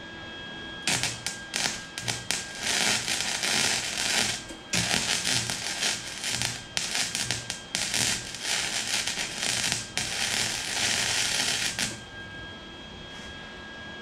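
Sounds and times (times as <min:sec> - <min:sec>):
welder arc crackling: 0:00.8 - 0:12.1.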